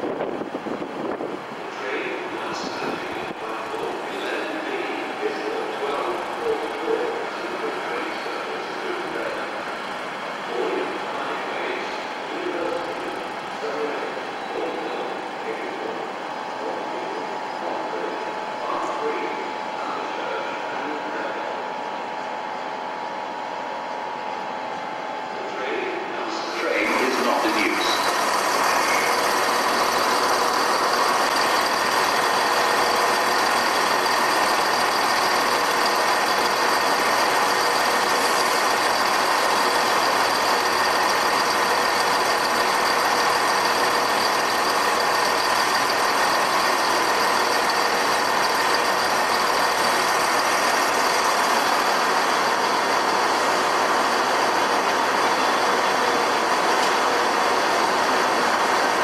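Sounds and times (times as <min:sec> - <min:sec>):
diesel train engines running: 0:00.0 - 0:59.0.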